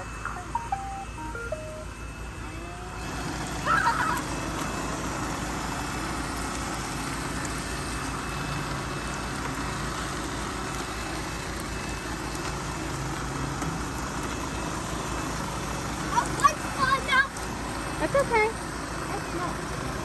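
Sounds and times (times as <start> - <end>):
robot vacuums whirring: 0.0 - 20.0.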